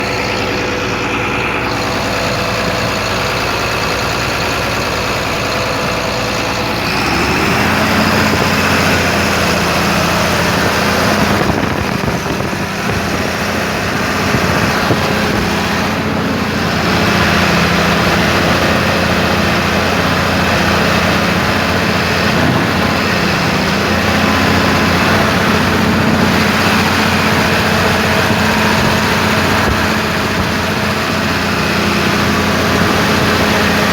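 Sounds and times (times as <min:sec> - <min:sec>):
engine knocking: 0:00.0 - 0:33.9.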